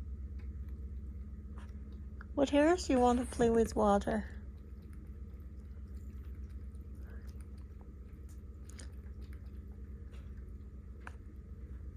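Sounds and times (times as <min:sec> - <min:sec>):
pet water fountain humming: 0:00.0 - 0:11.9
soft wet sounds: 0:00.4 - 0:11.9.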